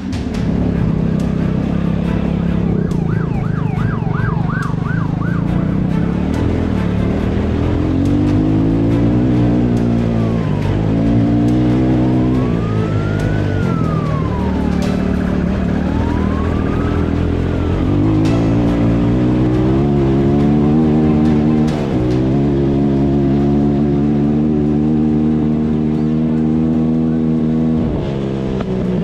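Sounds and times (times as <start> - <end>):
distant police siren wailing: 0.0 - 23.8
dirt bike engine revving: 0.0 - 29.0.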